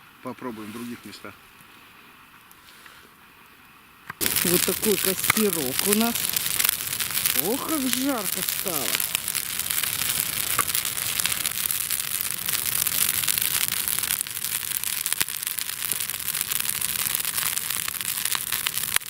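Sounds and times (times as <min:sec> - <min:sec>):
campfire crackling and popping: 0:03.4 - 0:19.0.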